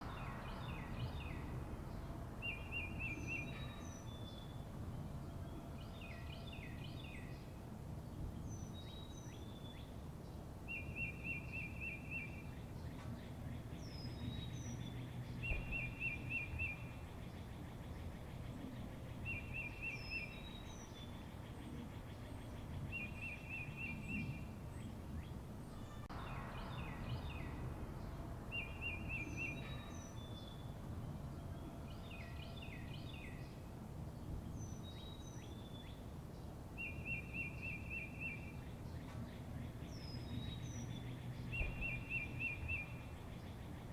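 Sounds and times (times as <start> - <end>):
low outdoor background noise: 0.0 - 43.9.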